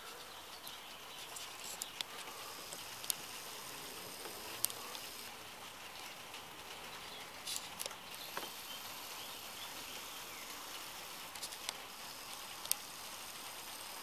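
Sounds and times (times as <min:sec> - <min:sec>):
steady rain hissing: 0:00.0 - 0:14.0
sharp ticks: 0:00.5 - 0:05.4, 0:06.3 - 0:14.0.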